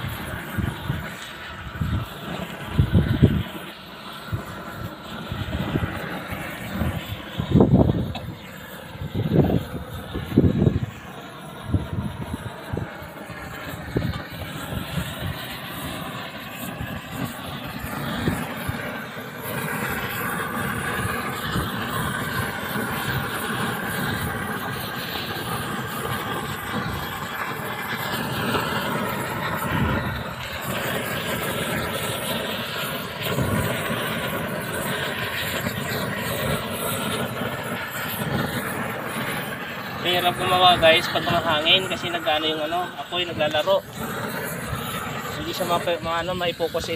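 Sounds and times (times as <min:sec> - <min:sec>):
gas torch burning: 0:00.0 - 0:46.9.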